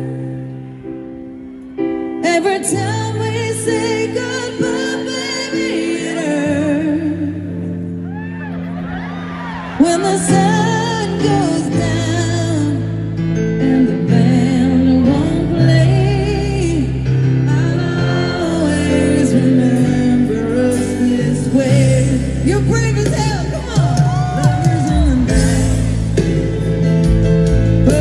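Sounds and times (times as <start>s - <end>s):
guitar: 0.0s - 28.0s
live band chords: 0.0s - 28.0s
person singing: 2.2s - 8.2s, 9.6s - 26.7s, 27.5s - 28.0s.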